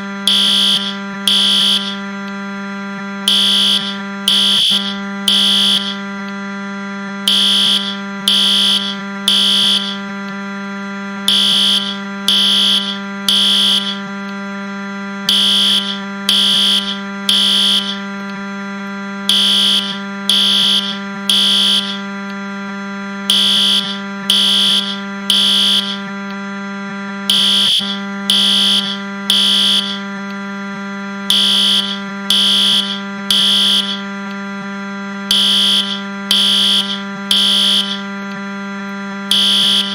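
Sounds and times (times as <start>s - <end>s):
fire alarm beeps: 0.0s - 39.9s
low electronic buzz: 0.0s - 39.9s.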